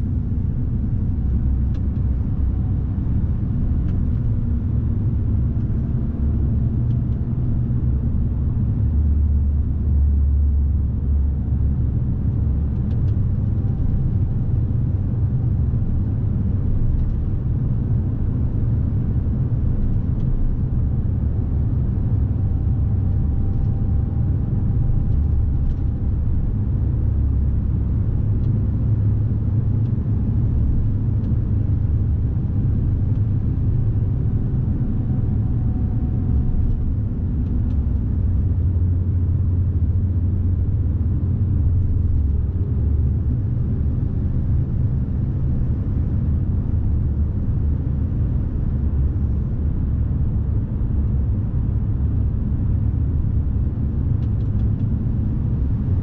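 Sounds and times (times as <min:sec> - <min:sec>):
lorry diesel engine rumble: 0:00.0 - 0:56.0
road noise: 0:00.0 - 0:56.0.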